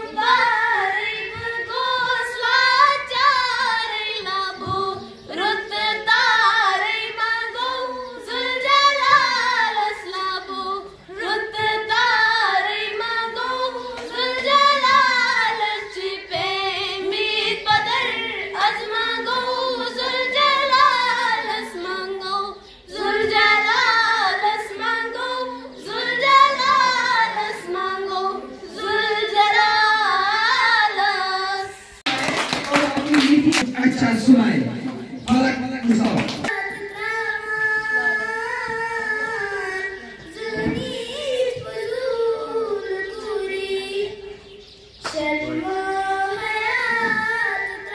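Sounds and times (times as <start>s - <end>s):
girl singing unaccompanied: 0.0s - 32.4s, 36.5s - 47.9s.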